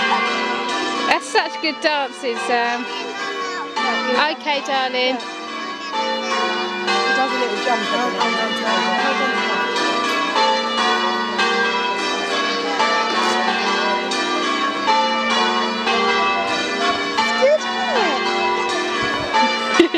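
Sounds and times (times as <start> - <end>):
church bells ringing: 0.0 - 19.9.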